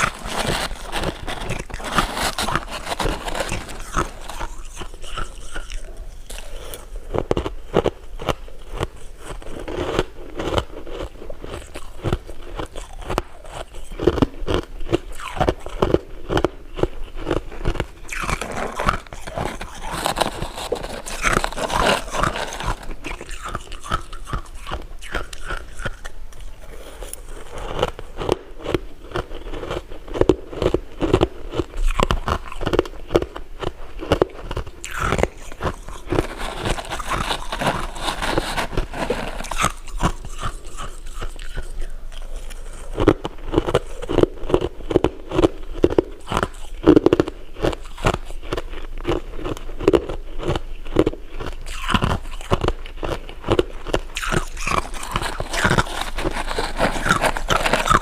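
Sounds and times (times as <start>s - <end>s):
crunchy chewing: 0.0s - 58.0s.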